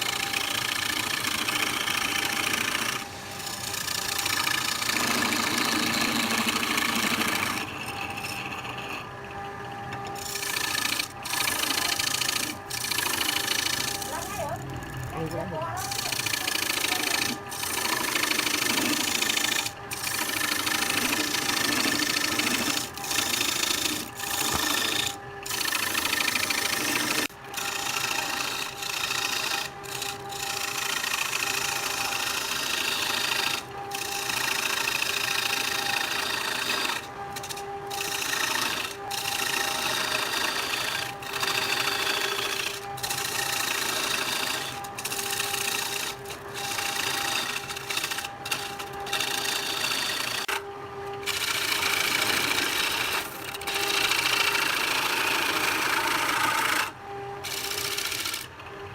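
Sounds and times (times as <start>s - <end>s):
motor hum: 0.0s - 58.9s
wood lathe cutting noise: 0.0s - 58.9s.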